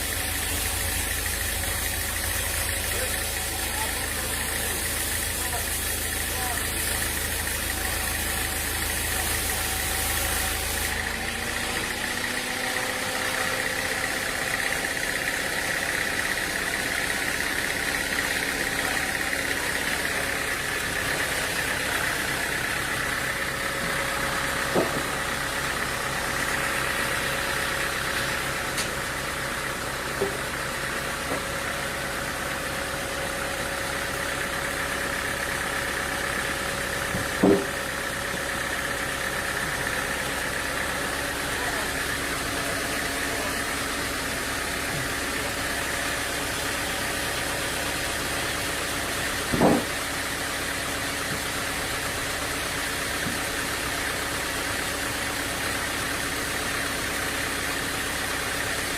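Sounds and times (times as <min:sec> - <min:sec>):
sawmill machinery drone: 0:00.0 - 0:58.9.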